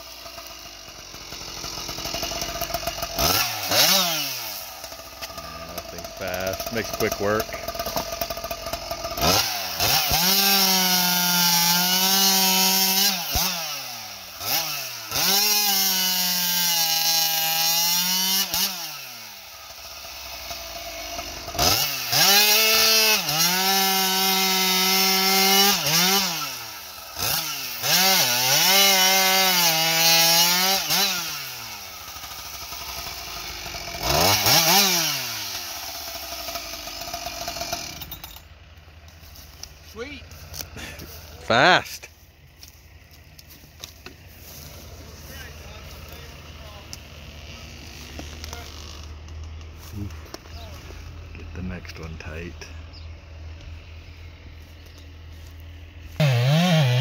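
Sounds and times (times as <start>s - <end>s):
chainsaw cutting logs: 0.0s - 57.0s.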